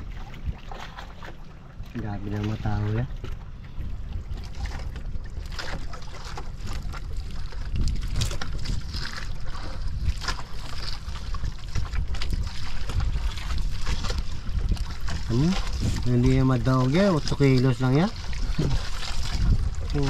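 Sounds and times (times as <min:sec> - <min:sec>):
low rumble on boat: 0:00.0 - 0:20.0.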